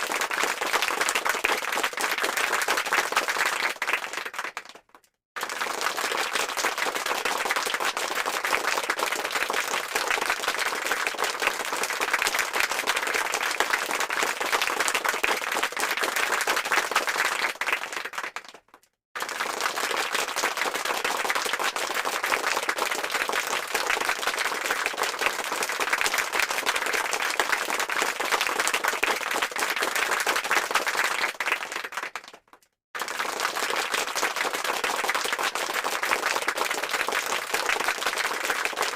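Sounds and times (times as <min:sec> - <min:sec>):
crowd applause: 0:00.0 - 0:04.8, 0:05.4 - 0:18.6, 0:19.2 - 0:32.4, 0:33.0 - 0:38.9.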